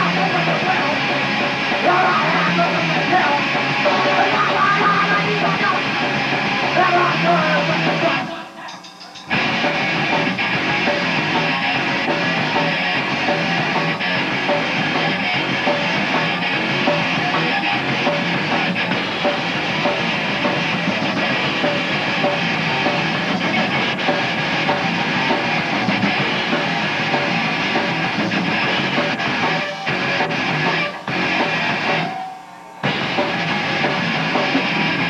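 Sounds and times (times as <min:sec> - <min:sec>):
bass guitar: 0:00.0 - 0:08.3, 0:08.9 - 0:35.0
drum kit: 0:00.0 - 0:35.0
electric guitar: 0:00.0 - 0:35.0.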